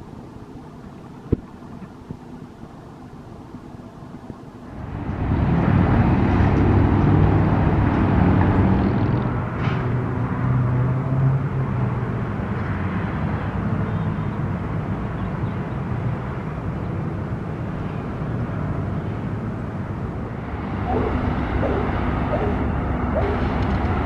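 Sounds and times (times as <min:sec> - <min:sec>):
vehicle engine low rumble: 0:00.0 - 0:24.0.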